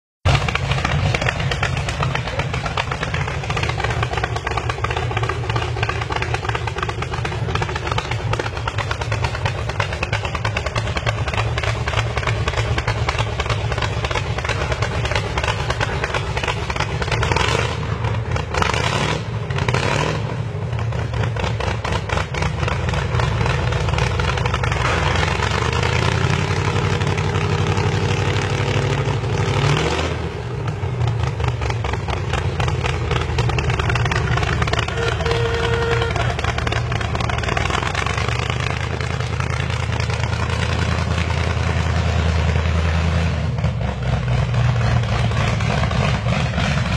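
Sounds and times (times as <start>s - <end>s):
tractor engine choppy idle: 0.2s - 46.9s
engine revving: 0.3s - 46.9s.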